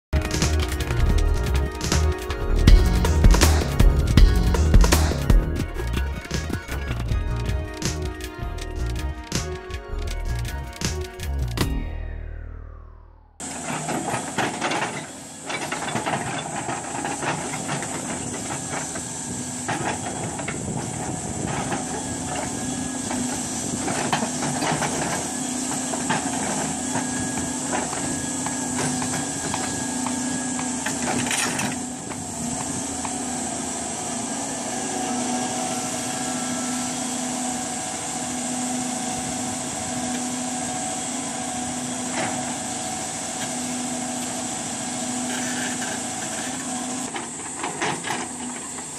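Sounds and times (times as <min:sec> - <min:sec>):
diesel engine under load: 0:00.1 - 0:48.9.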